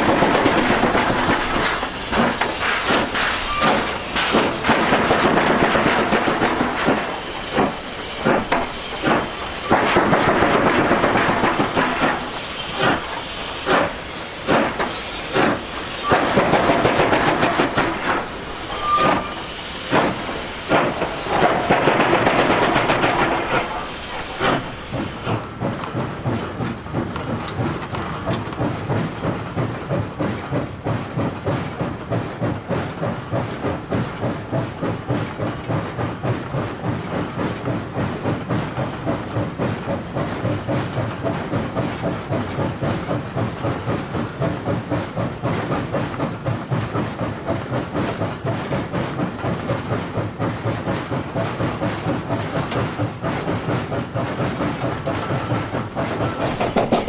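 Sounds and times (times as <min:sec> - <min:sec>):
loud steam hissing: 0:00.0 - 0:57.0
steam locomotive rhythmic beat: 0:00.0 - 0:57.0.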